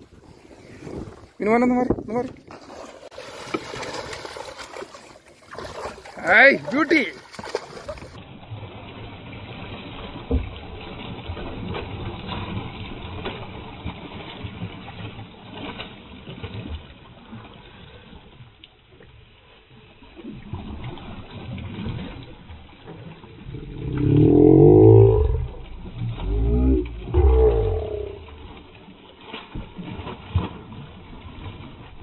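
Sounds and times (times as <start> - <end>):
fish thrashing in water: 0.0 - 18.9, 20.0 - 32.0
boat noise: 0.0 - 32.0.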